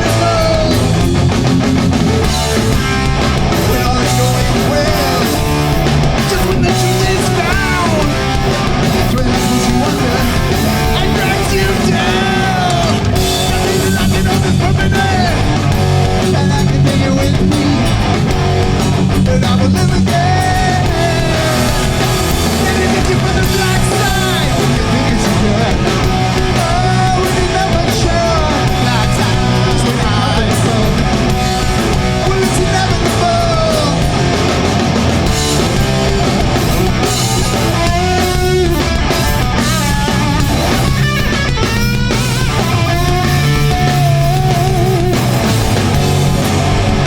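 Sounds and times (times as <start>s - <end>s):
person singing: 0.0s - 1.0s, 3.5s - 18.3s, 19.0s - 34.3s, 36.8s - 45.6s
punk band playing live: 0.0s - 47.0s.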